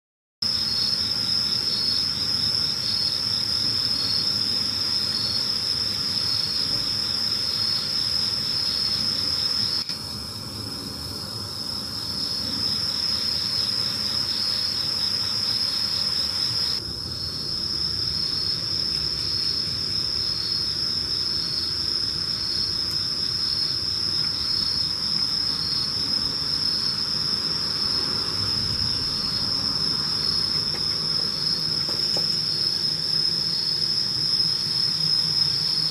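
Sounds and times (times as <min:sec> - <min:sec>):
insect high-pitched trill: 0:00.4 - 0:35.9
pulsing insect call: 0:00.4 - 0:35.9.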